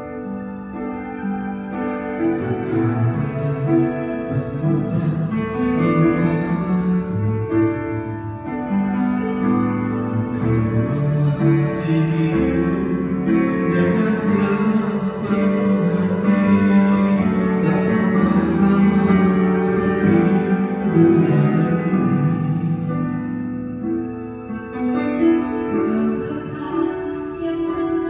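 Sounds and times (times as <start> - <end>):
keyboard accompaniment: 0.0 - 28.0
man singing into a microphone: 2.3 - 9.0, 9.6 - 23.8, 24.4 - 28.0.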